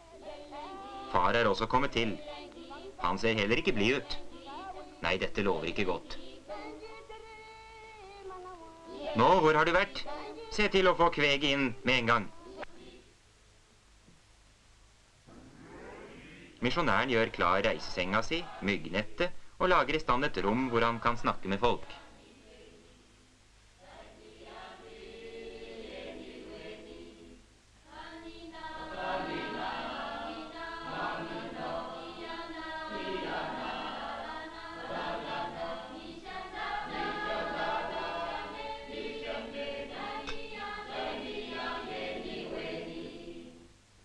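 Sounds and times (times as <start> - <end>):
choir singing: 0.0 - 13.1, 15.3 - 23.1, 23.8 - 43.7.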